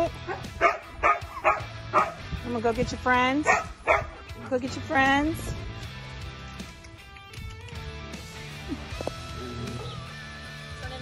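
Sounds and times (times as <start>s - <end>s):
background guitar music: 0.0s - 11.0s.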